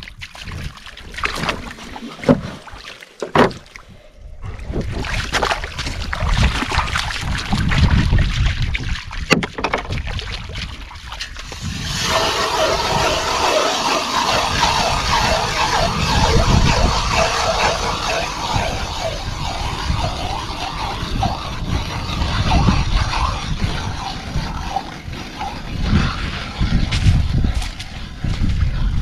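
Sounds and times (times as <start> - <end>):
wind rumbling on microphone: 0.0 - 2.6, 3.4 - 29.0
paws splashing through water: 0.0 - 3.9, 4.5 - 29.0.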